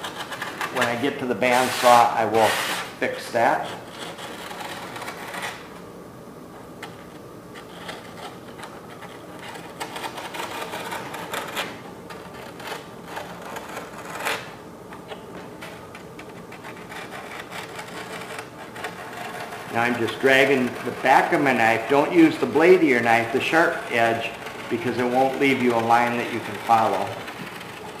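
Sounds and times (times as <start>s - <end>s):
knife scratching foam: 0.0s - 5.7s, 7.6s - 14.6s, 15.7s - 28.0s.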